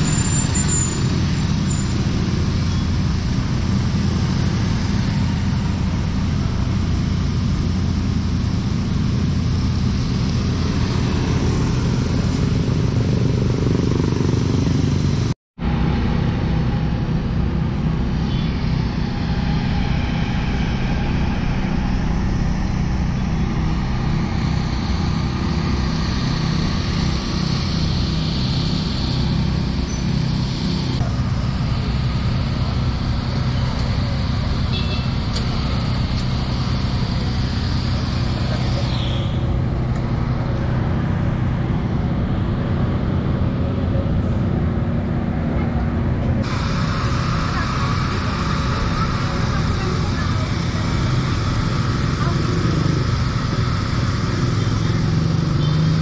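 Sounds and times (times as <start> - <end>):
street traffic rumbling: 0.0 - 56.0.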